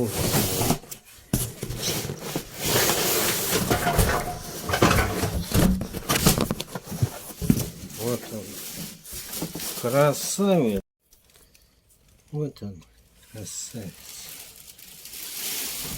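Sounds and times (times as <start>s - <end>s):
cardboard and plastic rustling: 0.0s - 12.4s, 13.1s - 15.9s.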